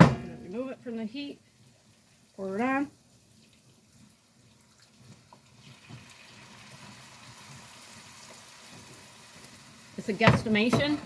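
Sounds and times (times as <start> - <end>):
liquid trickling into pan: 1.4 - 11.0.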